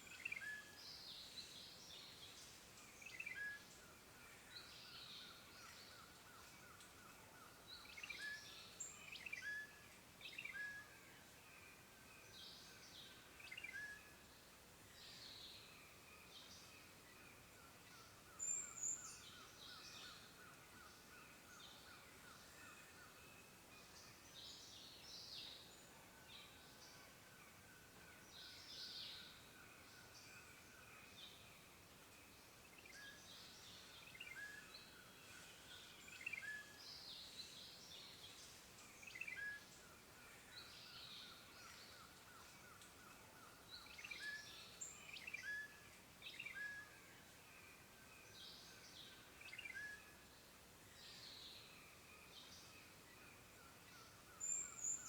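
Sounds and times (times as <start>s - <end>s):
woodland birdsong: 0.0s - 55.0s.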